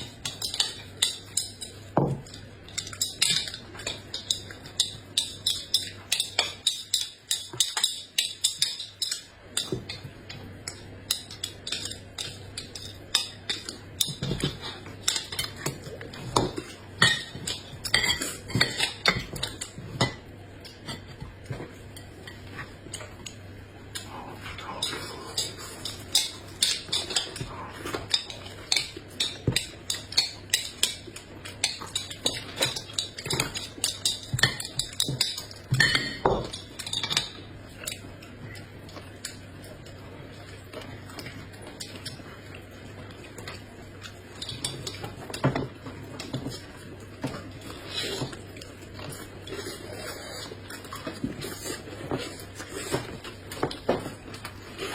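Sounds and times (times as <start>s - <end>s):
utensils clinking against dishes: 0.0s - 54.9s.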